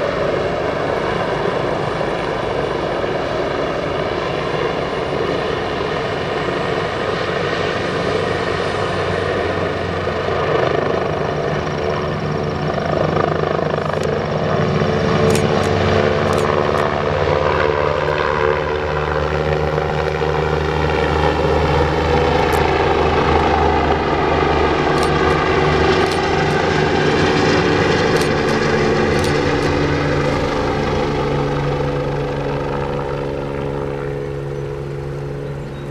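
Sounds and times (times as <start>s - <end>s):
helicopter engines and rotors: 0.0s - 35.9s.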